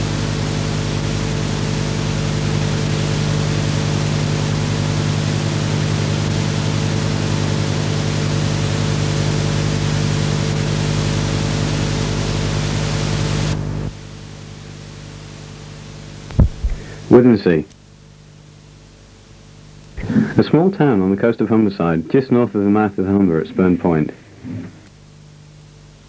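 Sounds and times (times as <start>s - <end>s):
buzzing mains hum: 0.0s - 26.0s
tape hiss: 0.0s - 26.0s.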